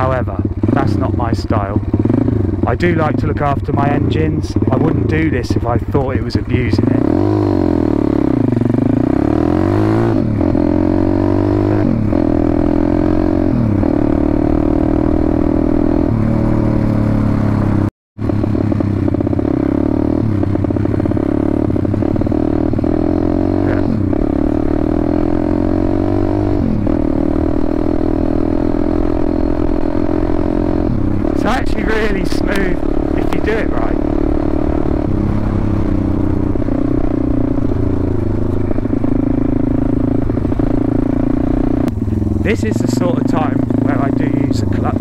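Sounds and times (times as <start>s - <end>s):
pit bike engine running: 0.0s - 45.0s.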